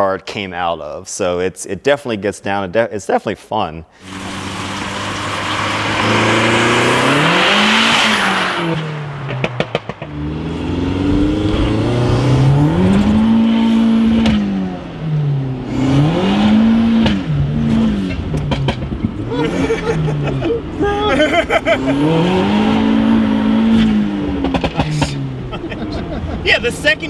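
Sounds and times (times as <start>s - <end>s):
car engine accelerating and upshifting: 4.0s - 27.0s.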